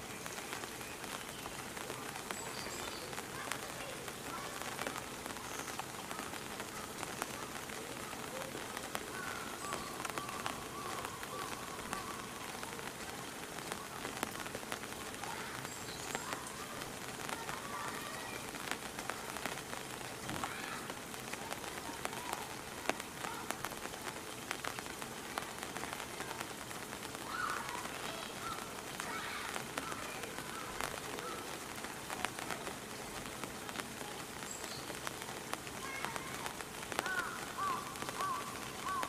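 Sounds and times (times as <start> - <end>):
rain on hard surfaces: 0.0 - 39.0.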